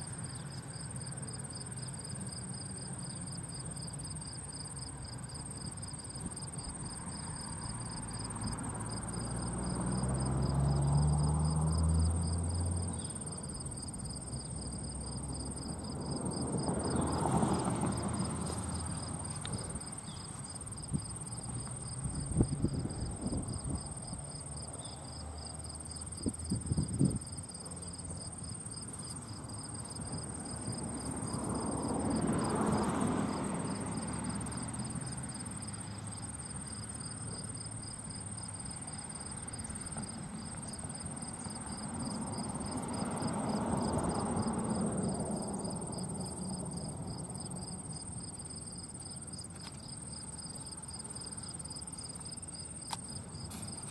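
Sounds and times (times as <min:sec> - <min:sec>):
insects chirping: 0:00.0 - 0:53.9.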